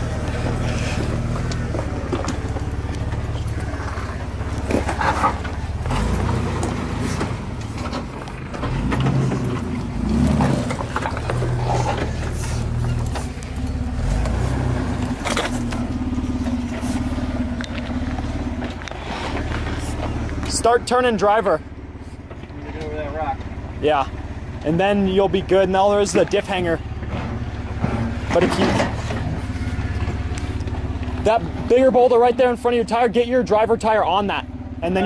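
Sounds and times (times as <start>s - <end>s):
engine running at low revs: 0.0s - 35.0s.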